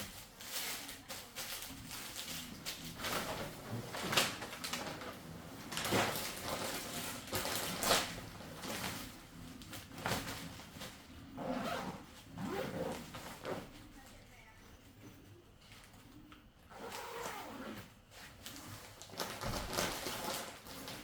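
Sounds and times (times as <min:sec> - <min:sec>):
rustling and scraping of bags: 0:00.0 - 0:14.2, 0:16.7 - 0:21.0.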